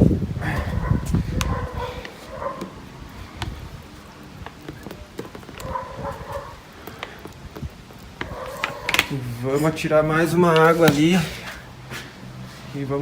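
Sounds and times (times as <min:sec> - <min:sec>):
water splashing and dripping: 0:01.3 - 0:12.5.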